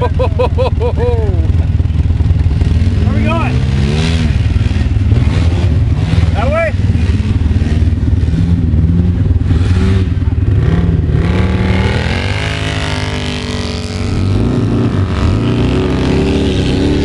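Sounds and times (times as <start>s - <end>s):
off-road vehicle engines running: 0.0s - 17.0s.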